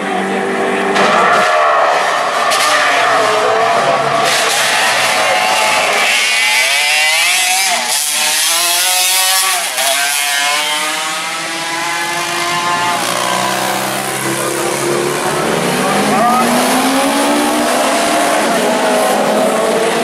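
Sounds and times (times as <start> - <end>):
racing engines at high revs: 0.0 - 20.0.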